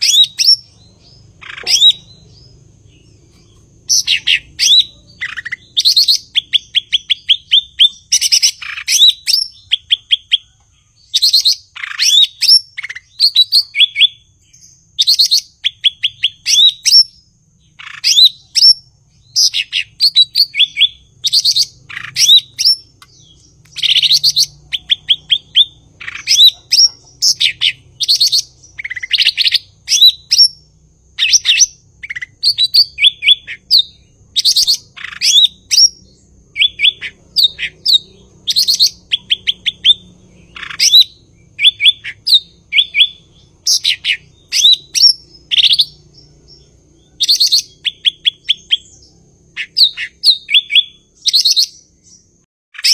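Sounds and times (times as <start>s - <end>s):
bird chirping and trilling: 0.0s - 52.9s.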